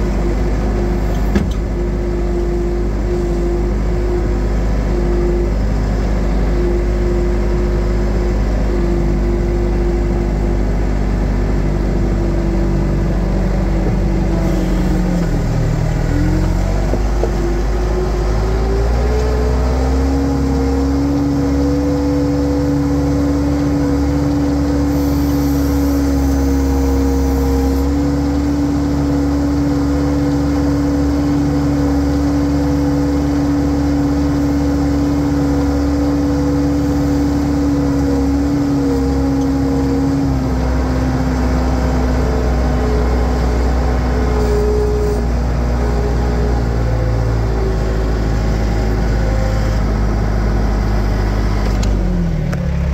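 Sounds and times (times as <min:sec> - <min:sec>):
diesel engine running loudly: 0:00.0 - 0:52.9.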